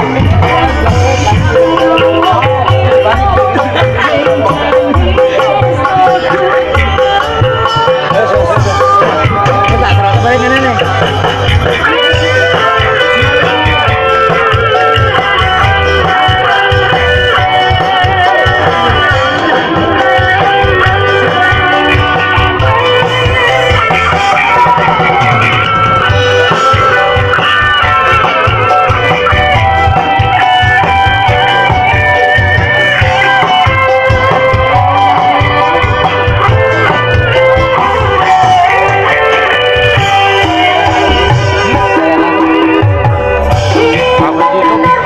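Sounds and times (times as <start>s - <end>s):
loud bass-heavy music: 0.0s - 45.0s.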